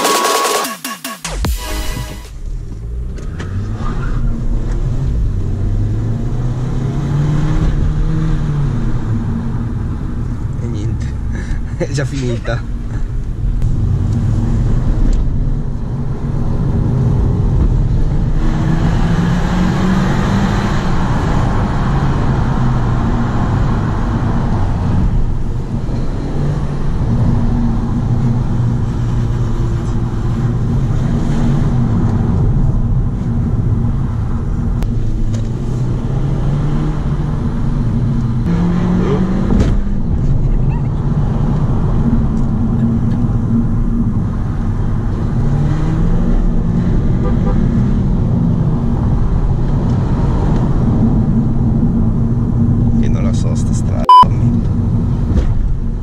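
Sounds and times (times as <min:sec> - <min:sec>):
car engine: 0:00.0 - 0:56.0
road noise: 0:01.5 - 0:56.0.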